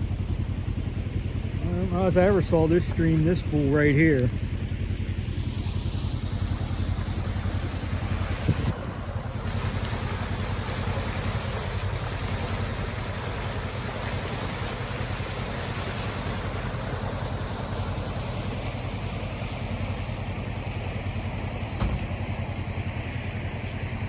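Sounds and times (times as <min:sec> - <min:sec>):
rushing stream water: 0:00.0 - 0:24.0
vehicle engine idling: 0:00.0 - 0:24.0.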